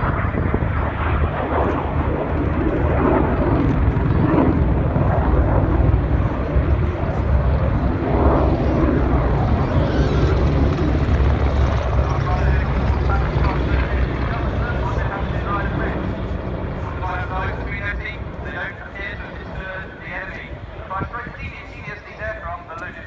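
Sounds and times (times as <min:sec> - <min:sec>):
helicopter rotors and turbines: 0:00.0 - 0:23.0.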